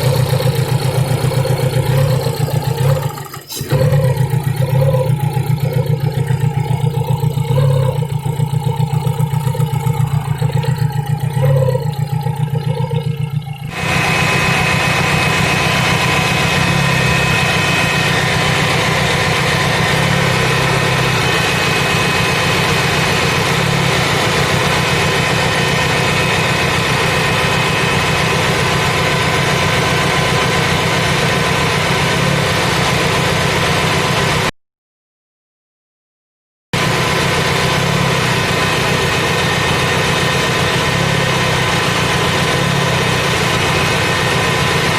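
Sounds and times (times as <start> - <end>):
car engine idling: 0.0 - 34.5, 36.8 - 44.9.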